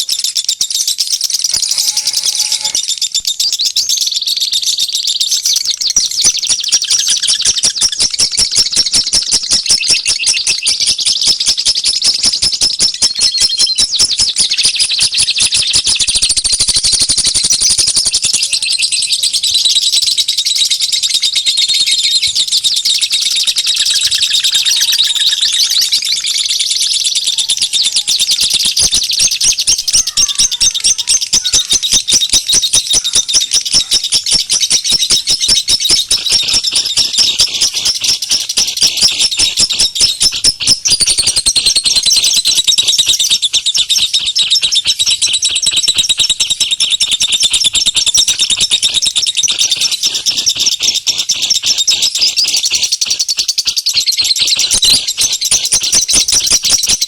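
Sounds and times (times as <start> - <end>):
recorded bird call chirping: 0.0 - 57.0.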